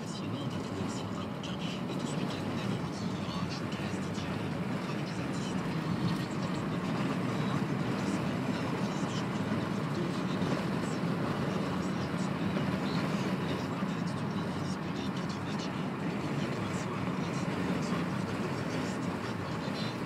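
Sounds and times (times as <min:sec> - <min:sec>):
car cabin engine and tyre hum: 0:00.0 - 0:20.0.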